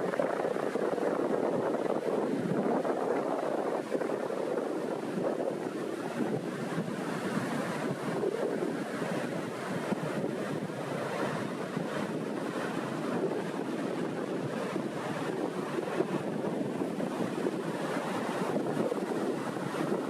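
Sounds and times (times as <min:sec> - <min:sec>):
sea waves washing on shore: 0:00.0 - 0:20.0
wind: 0:00.0 - 0:20.0.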